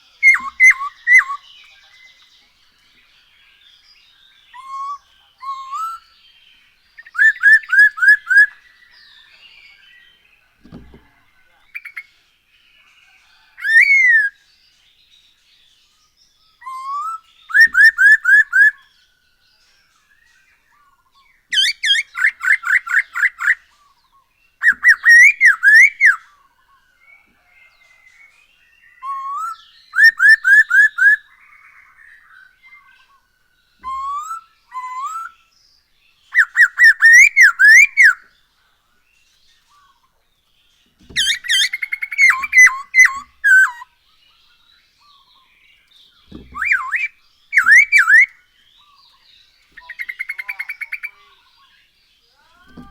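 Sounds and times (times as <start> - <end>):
faint bird chatter: 0.0 - 52.9.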